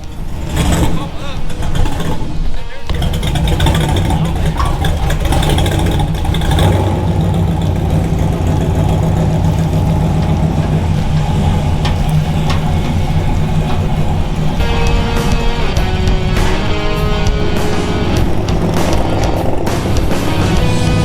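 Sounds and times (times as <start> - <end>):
truck engine running: 0.0 - 21.0
light ticks: 2.9 - 21.0.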